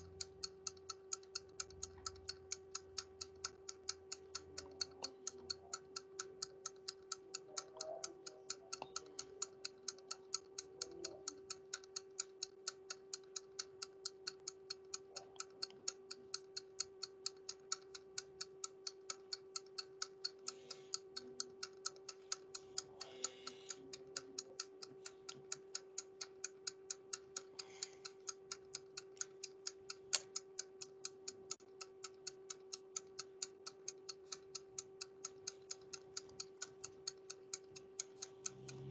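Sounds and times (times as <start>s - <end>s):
faint steady hum: 0.0s - 38.9s
timer ticking fast: 0.0s - 38.9s.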